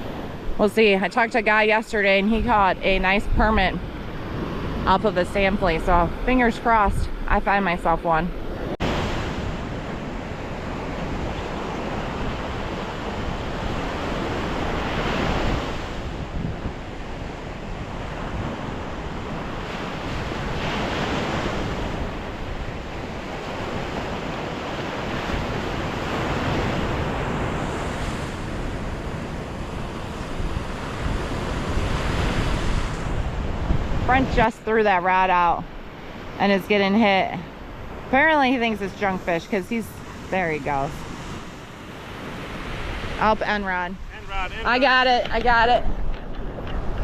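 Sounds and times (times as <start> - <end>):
surf breaking on beach: 0.0 - 47.0
wind buffeting microphone: 0.0 - 47.0.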